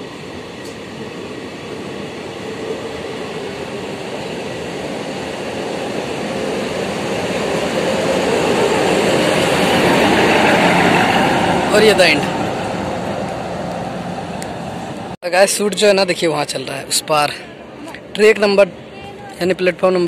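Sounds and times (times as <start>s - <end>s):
train coaches rumbling past: 0.0s - 20.0s.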